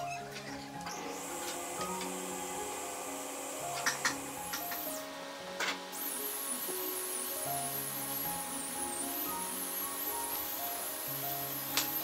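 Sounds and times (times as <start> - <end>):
background music of held notes: 0.0 - 12.0.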